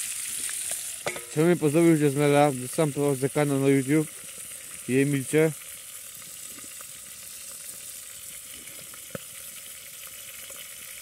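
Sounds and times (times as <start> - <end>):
chicken sizzling in a pan: 0.0 - 11.0
small pops of frying: 0.0 - 11.0.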